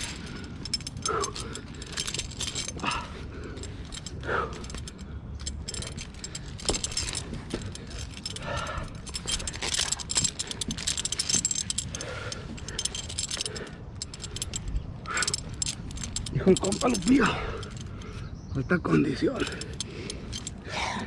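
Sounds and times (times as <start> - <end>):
climbing hardware clinking: 0.0 - 21.0.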